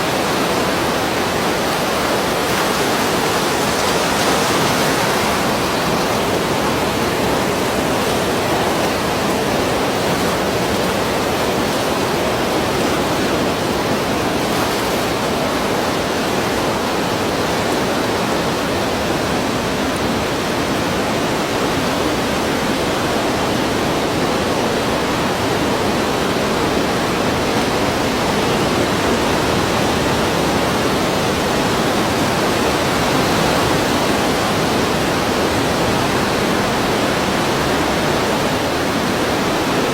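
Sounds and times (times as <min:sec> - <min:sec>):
sea waves rushing: 0:00.0 - 0:39.9.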